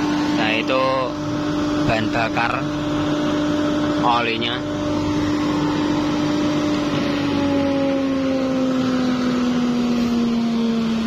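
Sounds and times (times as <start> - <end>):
blower motor hum: 0.0 - 11.0.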